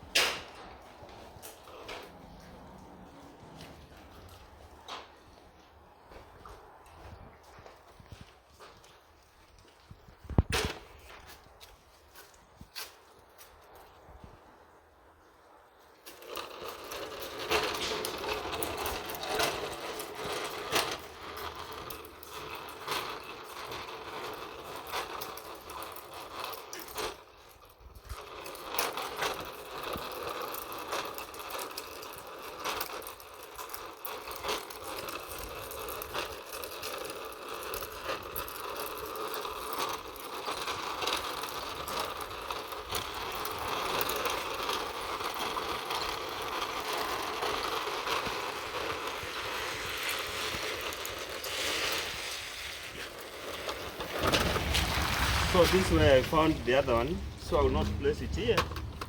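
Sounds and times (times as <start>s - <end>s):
vacuum cleaner rattling and scraping: 0.0s - 14.3s, 15.6s - 59.0s.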